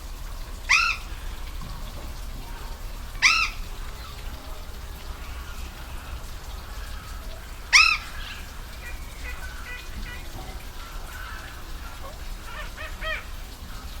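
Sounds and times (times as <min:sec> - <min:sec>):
waterfall rushing: 0:00.0 - 0:14.0
animal calling: 0:00.6 - 0:01.4, 0:02.5 - 0:14.0.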